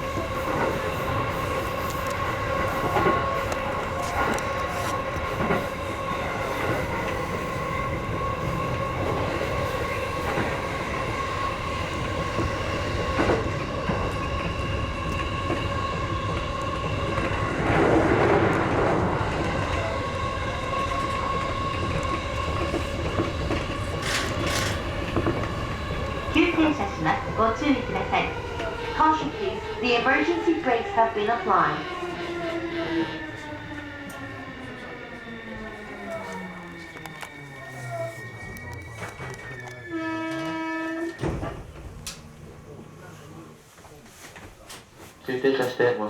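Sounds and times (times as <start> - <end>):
passing train rush: 0.0 - 46.0
train rolling with wheel clatter: 0.0 - 46.0.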